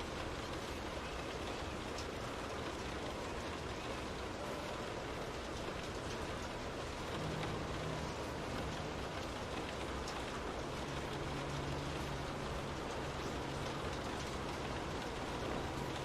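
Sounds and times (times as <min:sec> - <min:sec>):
rain on a window pane: 0:00.0 - 0:16.0.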